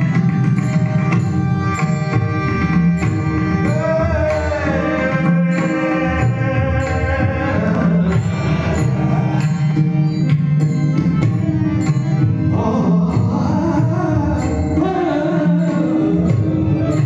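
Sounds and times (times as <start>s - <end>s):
mridang drum strokes: 0.0s - 17.0s.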